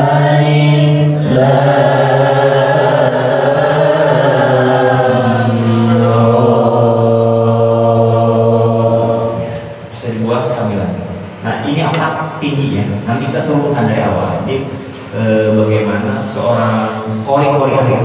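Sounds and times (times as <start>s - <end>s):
man reciting through loudspeaker: 0.0s - 18.0s.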